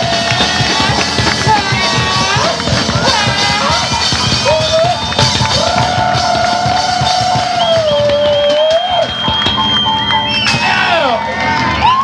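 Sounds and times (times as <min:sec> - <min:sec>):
drum kit beat: 0:00.0 - 0:10.9.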